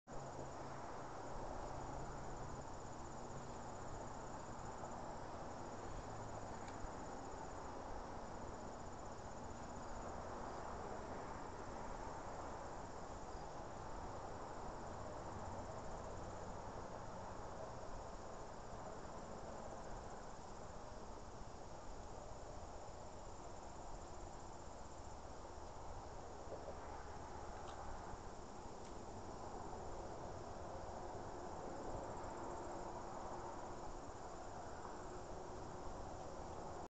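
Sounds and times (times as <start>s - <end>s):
insects chirring: 0.1s - 17.2s, 18.0s - 35.8s
low background hiss: 0.1s - 36.9s.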